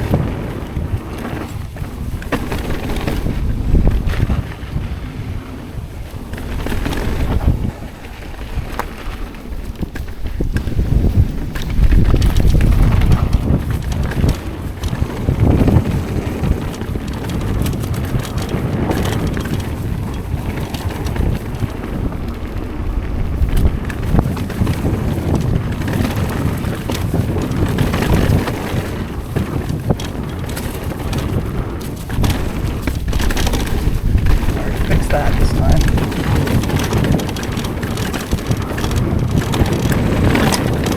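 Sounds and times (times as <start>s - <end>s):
bike knocking and rattling: 0.0s - 40.9s
wind buffeting microphone: 0.0s - 40.9s.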